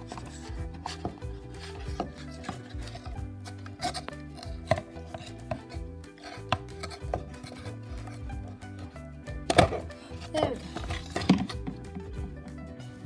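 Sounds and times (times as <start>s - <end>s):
plastic toy and cardboard box clicks: 0.0s - 8.2s, 8.8s - 12.0s
background music with held notes: 0.0s - 13.0s.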